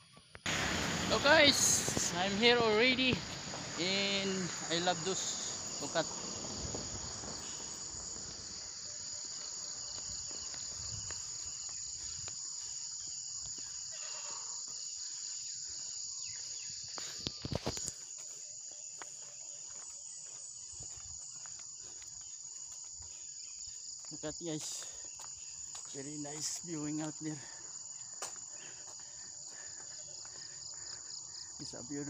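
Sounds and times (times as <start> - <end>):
chorus of crickets: 0.0 - 32.0.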